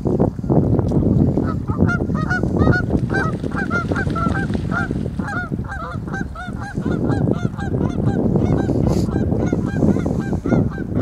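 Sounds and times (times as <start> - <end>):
geese honking: 1.8 - 10.9.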